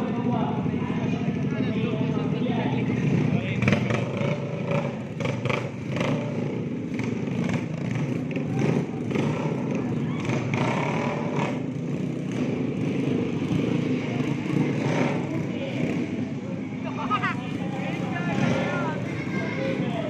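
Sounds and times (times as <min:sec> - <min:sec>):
crowd chatter: 0:00.0 - 0:20.0
scooter engines running: 0:00.0 - 0:20.0.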